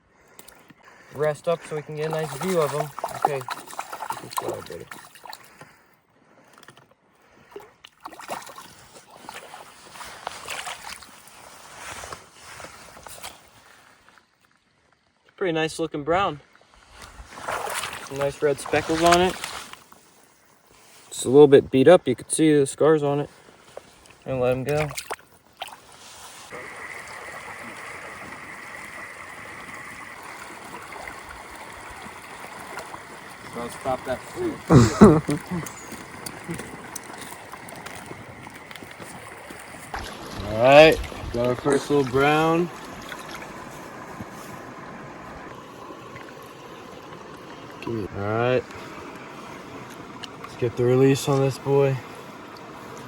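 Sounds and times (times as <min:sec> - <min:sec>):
creek water splashing: 0:00.0 - 0:53.0.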